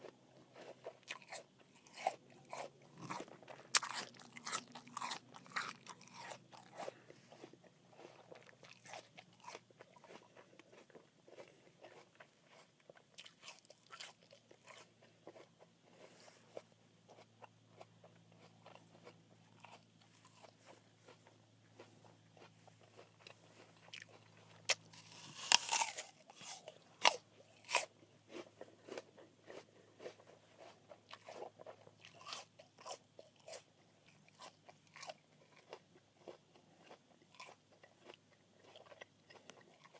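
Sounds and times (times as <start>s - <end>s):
apple crunching: 0.0s - 39.9s.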